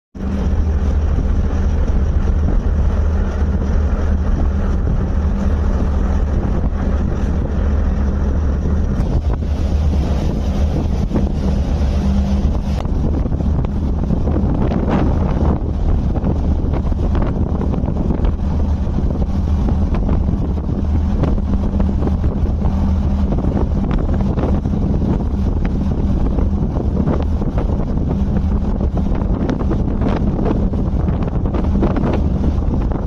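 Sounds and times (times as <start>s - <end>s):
marine engine humming: 0.1s - 33.0s
wind buffeting microphone: 0.1s - 33.0s.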